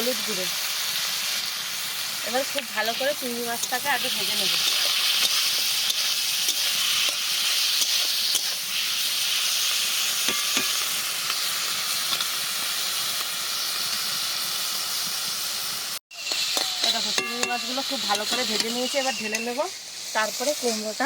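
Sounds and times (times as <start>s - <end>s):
prawns sizzling in hot oil: 0.0s - 21.0s.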